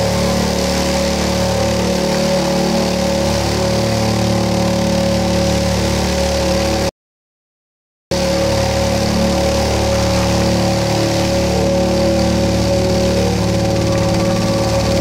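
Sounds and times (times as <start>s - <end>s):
loudspeaker low buzz: 0.0s - 6.9s, 8.1s - 15.0s.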